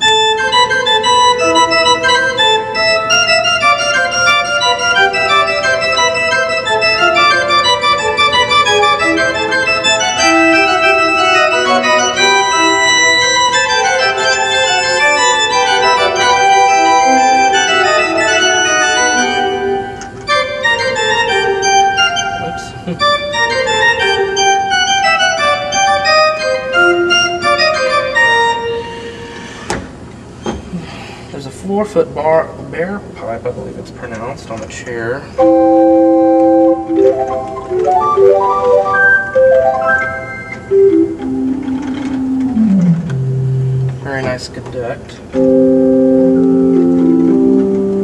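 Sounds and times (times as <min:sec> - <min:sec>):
pipe organ playing chords: 0:00.0 - 0:29.5, 0:35.4 - 0:44.4, 0:45.2 - 0:48.0.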